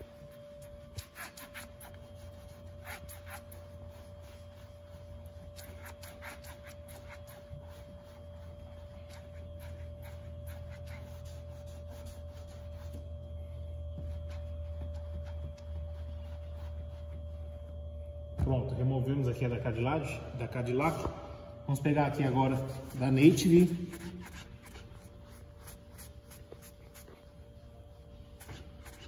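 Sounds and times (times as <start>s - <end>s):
cloth rubbing on painted metal: 0.0s - 18.2s, 22.0s - 29.0s
faint constant tone: 0.0s - 29.0s
steady low hum: 0.0s - 29.0s.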